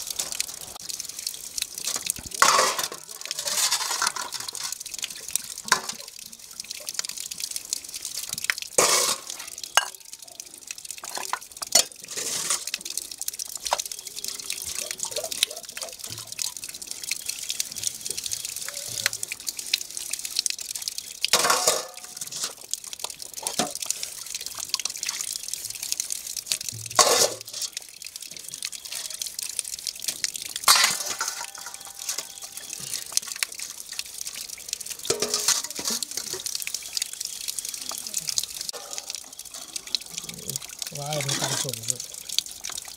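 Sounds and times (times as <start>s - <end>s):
water splashing and dripping: 0.0s - 42.9s.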